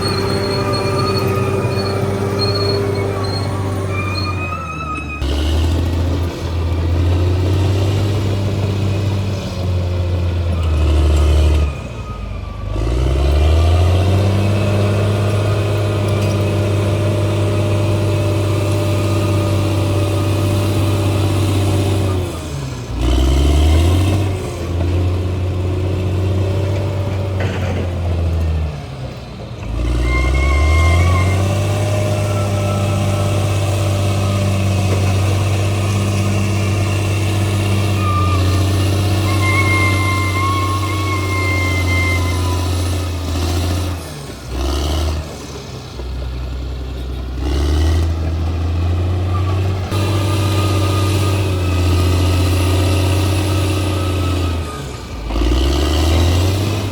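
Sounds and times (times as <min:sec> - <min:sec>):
bulldozer diesel engine: 0:00.0 - 0:56.9.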